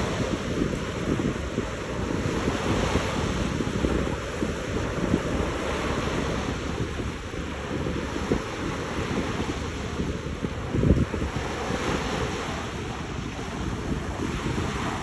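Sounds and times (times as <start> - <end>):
small waves washing up shore: 0.0 - 15.0
wind buffeting microphone: 0.0 - 15.0.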